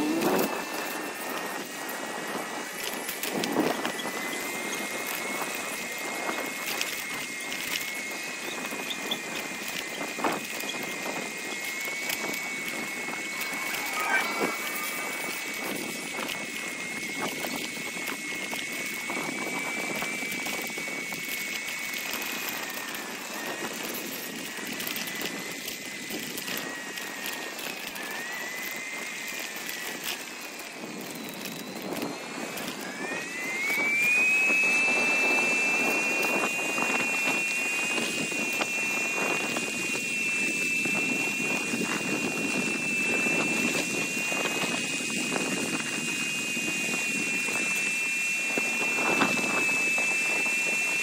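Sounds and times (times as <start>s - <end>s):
bicycle high whine: 0.0s - 51.0s
wind: 0.0s - 51.0s.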